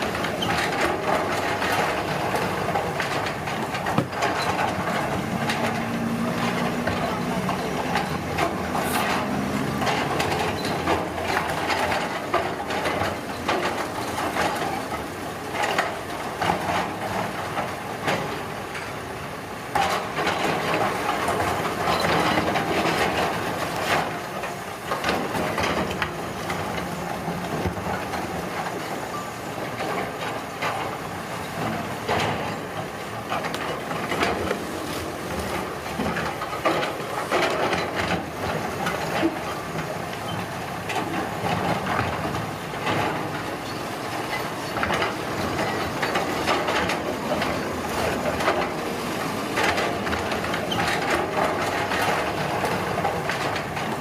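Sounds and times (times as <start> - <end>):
construction machinery din: 0.0 - 54.0
machinery clanks and crunching: 0.0 - 54.0.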